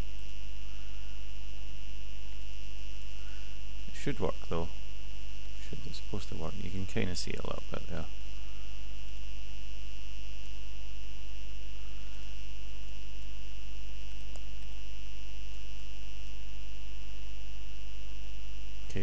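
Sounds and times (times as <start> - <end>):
electrical mains hum: 0.0 - 19.0
high-pitched whine: 0.0 - 19.0.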